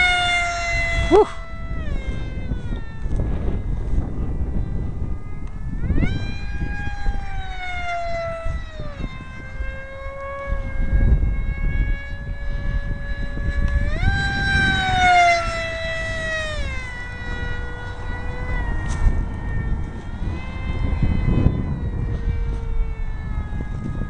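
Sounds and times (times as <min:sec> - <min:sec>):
electric motor and propeller whining: 0:00.0 - 0:24.0
wind rumbling on microphone: 0:00.0 - 0:24.0.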